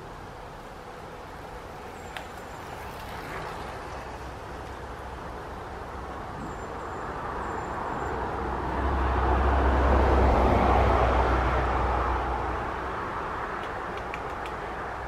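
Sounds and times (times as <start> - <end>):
vehicle passing: 1.4 - 15.0.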